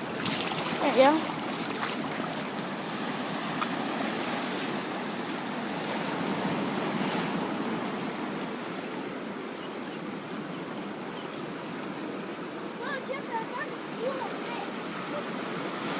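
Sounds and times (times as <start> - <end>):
ocean surf washing ashore: 0.0 - 15.9.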